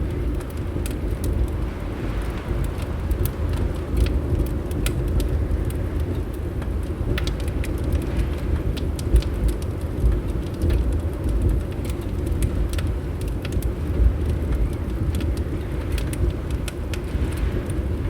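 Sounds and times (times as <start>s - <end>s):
fireplace crackling: 0.0s - 18.0s
steady low rumble: 0.0s - 18.0s.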